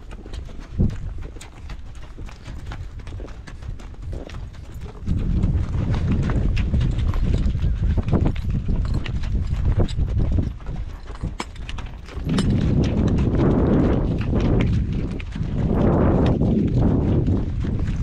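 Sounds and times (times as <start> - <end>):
horse hooves clip-clopping: 0.0 - 18.0
wind rumble on microphone: 0.0 - 18.0.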